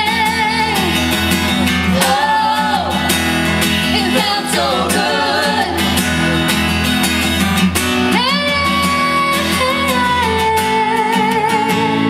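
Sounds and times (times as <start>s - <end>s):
strummed guitar chords: 0.0s - 12.0s.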